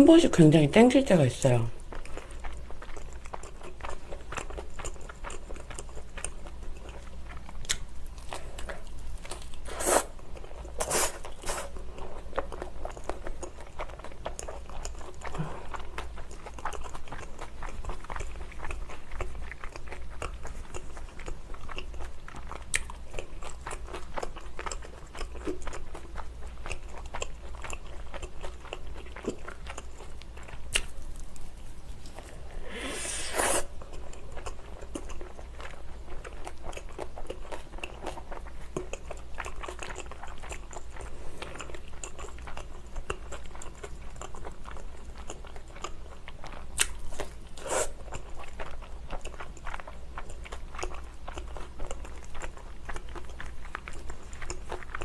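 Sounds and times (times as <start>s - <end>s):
chewing: 1.7s - 55.0s.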